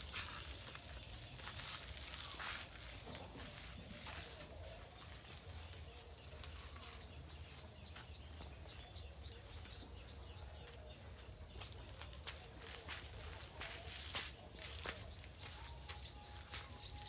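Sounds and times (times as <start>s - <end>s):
bird chirping: 0.1s - 17.0s.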